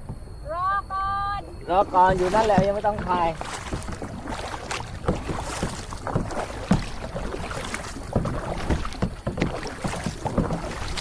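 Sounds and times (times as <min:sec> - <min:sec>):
paddle splashing in water: 0:00.0 - 0:11.0.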